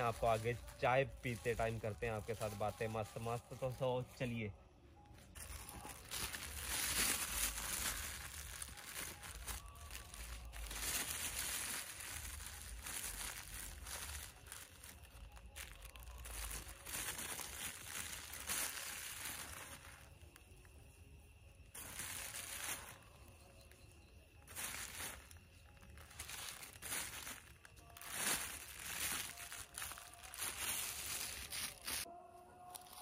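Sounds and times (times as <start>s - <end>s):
plastic bag crinkling: 0.0s - 4.2s, 5.2s - 20.4s, 21.7s - 32.1s.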